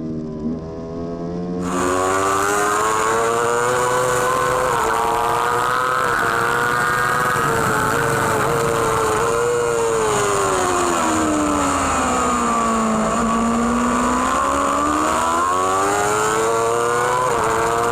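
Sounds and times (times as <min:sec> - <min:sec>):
superbike engine at high revs: 0:00.0 - 0:17.9.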